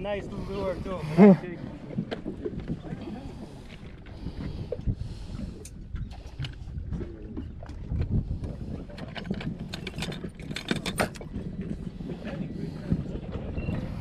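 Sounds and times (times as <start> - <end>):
low boat rumble: 0.0 - 14.0.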